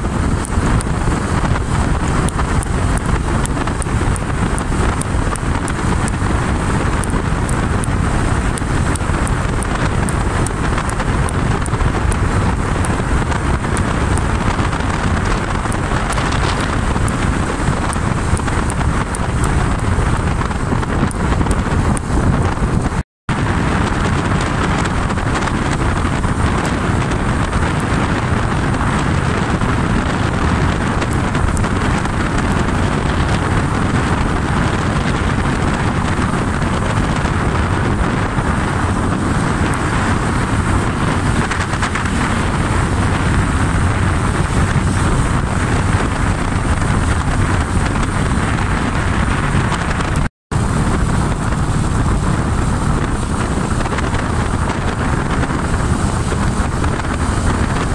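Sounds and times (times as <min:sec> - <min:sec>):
motorcycle engine running: 0:00.0 - 0:57.9
wind rushing over microphone: 0:00.0 - 0:57.9.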